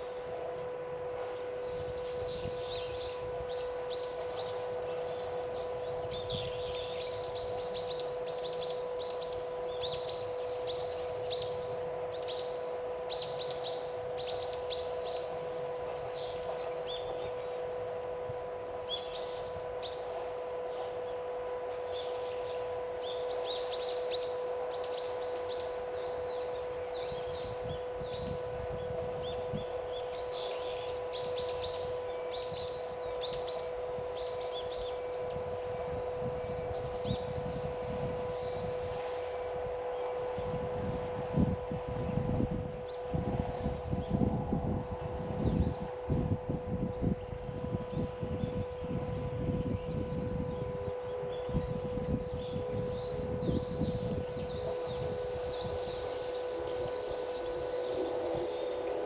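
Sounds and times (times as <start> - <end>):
small birds chirping: 0.0 - 59.0
steady hum: 0.0 - 59.0.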